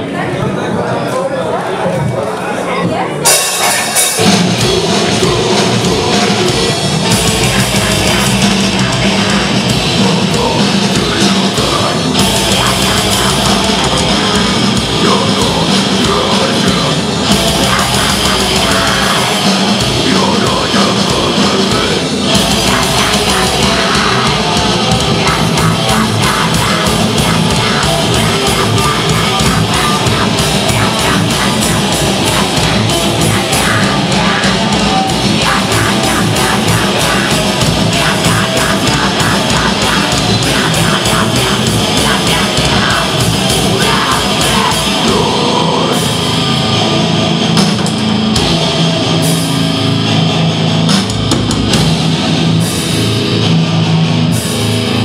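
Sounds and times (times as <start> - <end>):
vocalist singing: 0.0 - 47.7
distorted electric guitars: 0.0 - 55.0
drum kit: 3.2 - 55.0
electric bass: 3.2 - 55.0.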